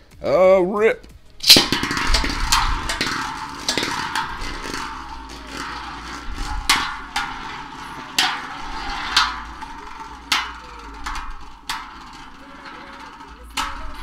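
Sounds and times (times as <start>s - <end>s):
tops clashing with sharp clacks: 1.3s - 14.0s
spinning tops whirring: 1.4s - 14.0s.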